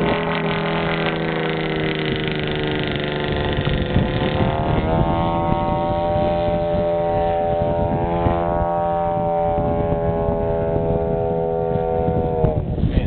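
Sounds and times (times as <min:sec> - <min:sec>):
model airplane engine buzzing: 0:00.0 - 0:13.0.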